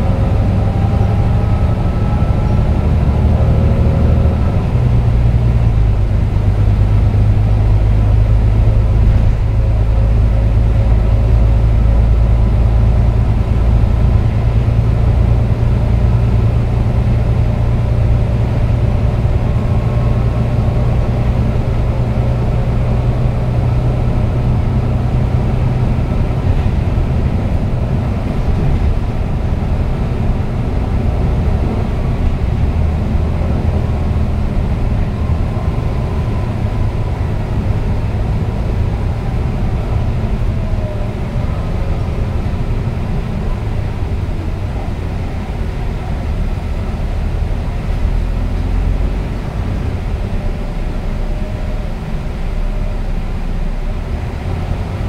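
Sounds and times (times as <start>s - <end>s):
bus engine drone: 0.0s - 55.0s
road rumble: 0.0s - 55.0s.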